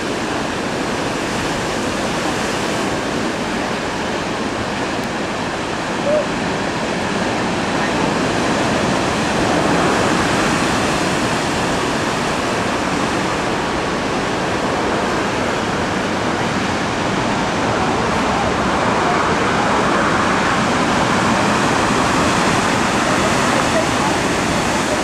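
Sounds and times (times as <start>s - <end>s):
surf breaking on rocks: 0.0s - 25.0s.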